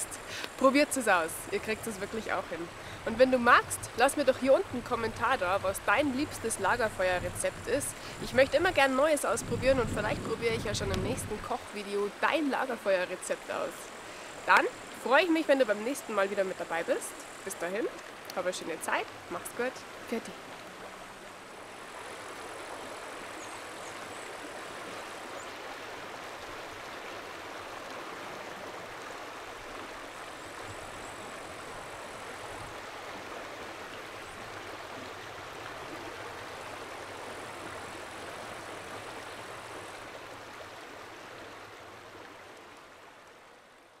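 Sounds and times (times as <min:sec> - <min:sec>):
flowing water rushing: 0:00.0 - 0:44.0.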